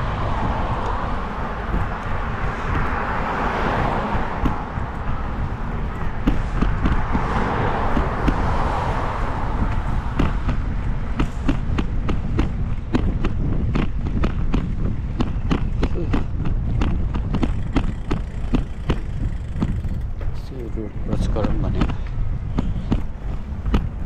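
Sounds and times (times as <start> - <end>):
road and traffic noise: 0.0 - 24.0
wind rumbling on microphone: 0.0 - 24.0.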